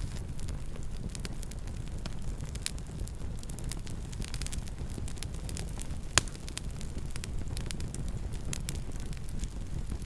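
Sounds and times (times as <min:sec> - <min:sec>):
low rumble of flames: 0:00.0 - 0:10.0.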